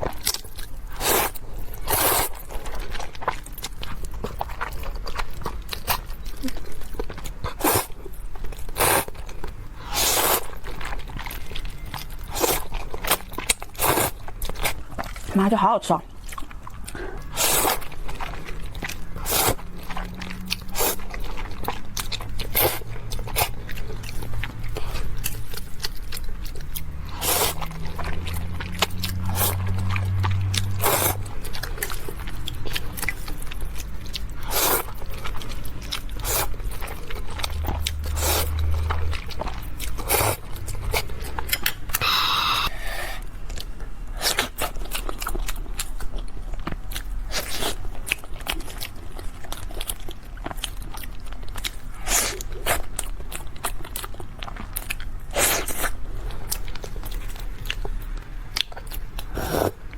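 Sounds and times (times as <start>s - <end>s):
close chewing and eating: 0.0s - 59.9s.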